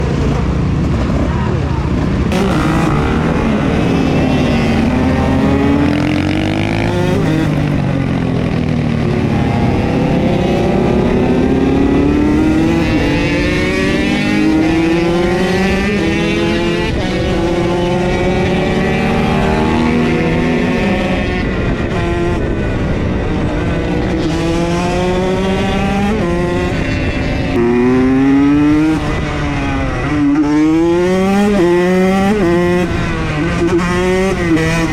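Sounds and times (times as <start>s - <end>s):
motocross bike engine revving: 0.0s - 22.4s, 23.4s - 34.9s.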